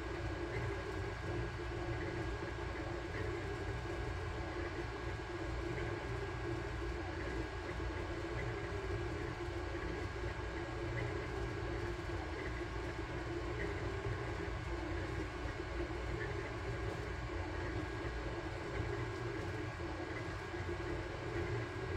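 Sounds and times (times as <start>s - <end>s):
printer fans and motors humming: 0.0s - 21.9s
thin steady whine: 0.0s - 21.9s.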